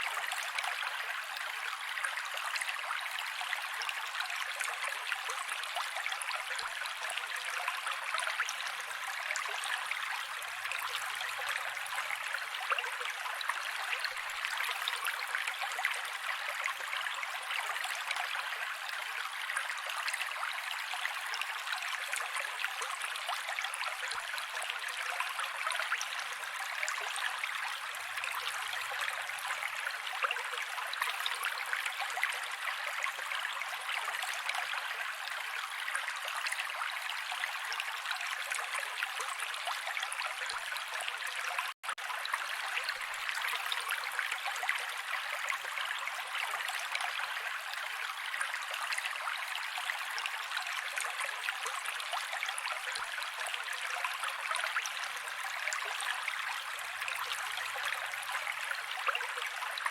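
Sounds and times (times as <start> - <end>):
creek water over rocks: 0.0 - 59.9.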